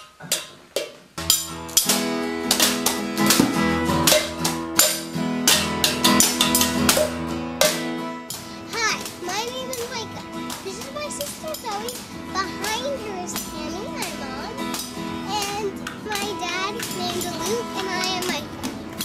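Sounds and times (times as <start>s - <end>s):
drum beat: 1.2s - 19.0s
strummed guitar chords: 1.2s - 19.0s.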